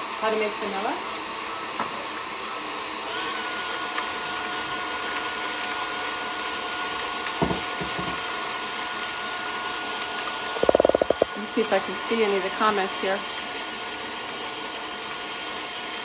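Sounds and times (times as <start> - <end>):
stand mixer whipping butter: 2.8 - 16.0.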